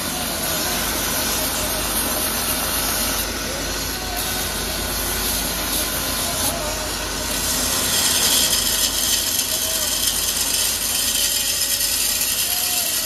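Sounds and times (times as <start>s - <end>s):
belt grinder grinding steel: 0.0s - 13.0s.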